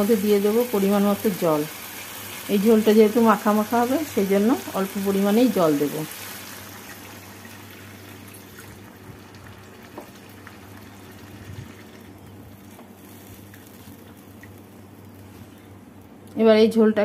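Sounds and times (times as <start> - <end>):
pan sizzling: 0.0 - 15.8.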